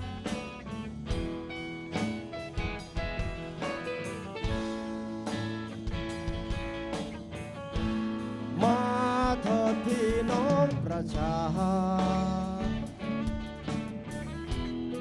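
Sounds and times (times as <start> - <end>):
strummed acoustic guitars: 0.0 - 15.0.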